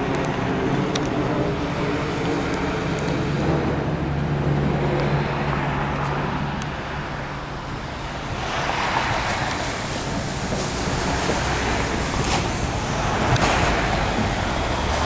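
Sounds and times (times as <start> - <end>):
diesel locomotive engine hum: 0.0 - 15.0
rushing noise: 0.0 - 15.0.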